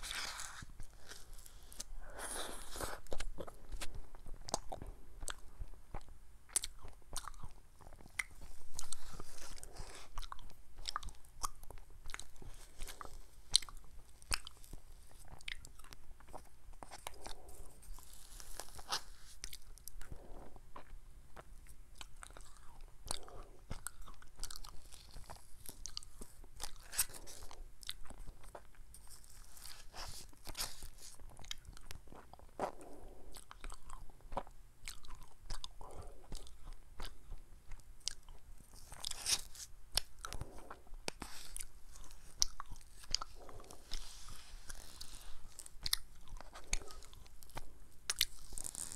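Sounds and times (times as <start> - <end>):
person chewing ice cream: 0.0 - 48.9.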